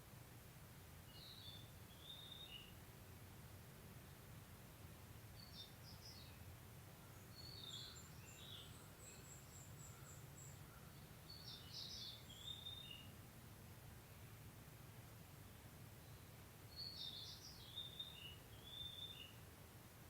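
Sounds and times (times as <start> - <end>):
faint birdsong chirps: 0.9 - 3.0, 3.8 - 20.0.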